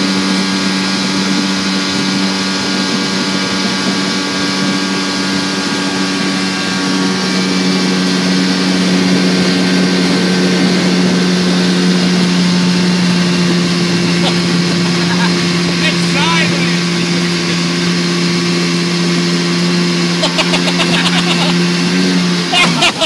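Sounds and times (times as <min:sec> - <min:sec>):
outboard motor running: 0:00.0 - 0:23.0
water rushing: 0:00.0 - 0:23.0.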